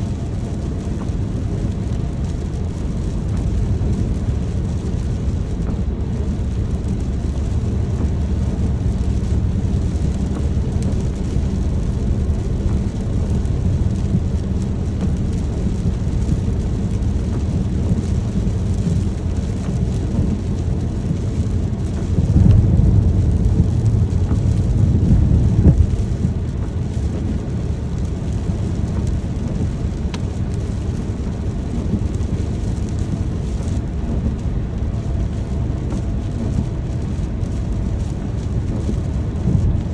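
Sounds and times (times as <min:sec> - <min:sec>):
low rumble: 0:00.0 - 0:39.9
steady rain: 0:00.0 - 0:39.9.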